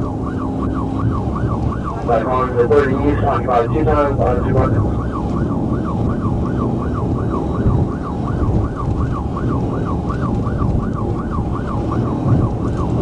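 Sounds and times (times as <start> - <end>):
car engine and road rumble: 0.0 - 13.0
police siren yelp: 0.0 - 13.0.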